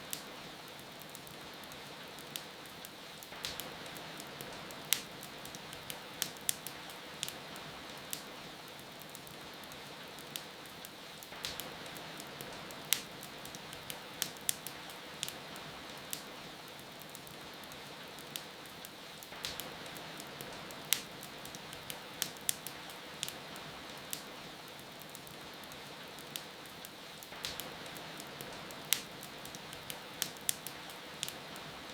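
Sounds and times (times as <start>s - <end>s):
rain hiss: 0.0s - 31.9s
wood fire crackling and popping: 0.0s - 31.9s.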